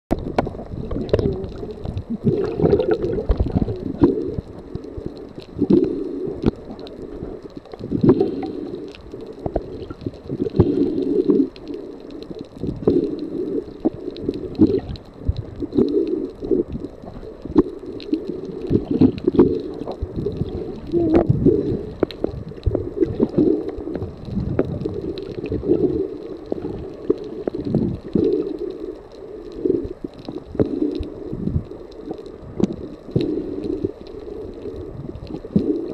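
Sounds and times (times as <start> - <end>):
underwater sloshing and gurgling: 0.1 - 35.9.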